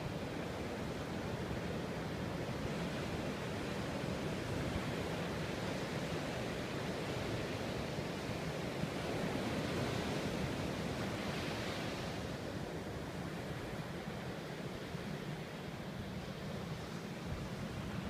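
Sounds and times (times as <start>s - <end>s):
ocean surf breaking on beach: 0.0s - 18.0s.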